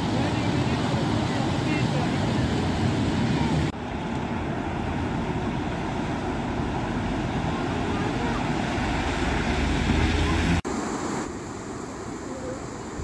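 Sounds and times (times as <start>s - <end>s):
vehicles driving through water: 0.0s - 13.0s.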